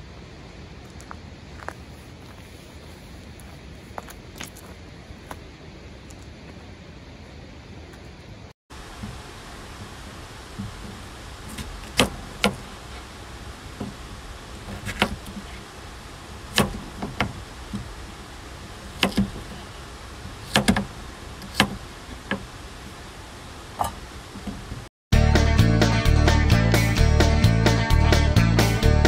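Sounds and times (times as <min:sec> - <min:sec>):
background hiss: 0:00.0 - 0:29.0.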